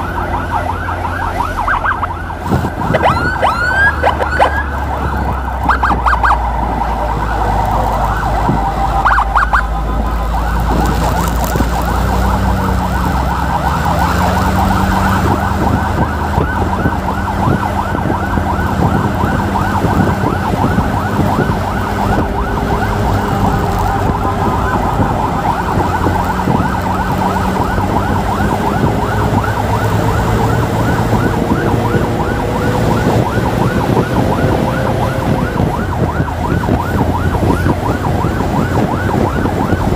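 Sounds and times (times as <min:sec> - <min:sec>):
emergency siren yelping: 0:00.0 - 0:39.9.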